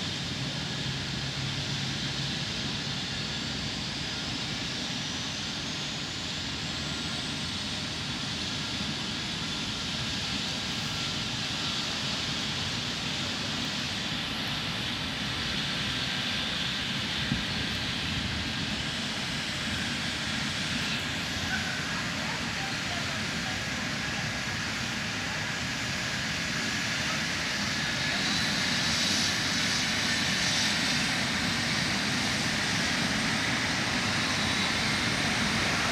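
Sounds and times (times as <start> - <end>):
helicopter engine and rotor: 0.0 - 35.9.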